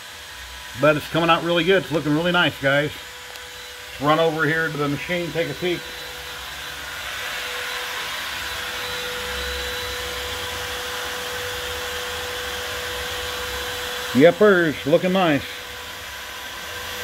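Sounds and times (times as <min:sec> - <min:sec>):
router carving wood: 0:00.0 - 0:17.0.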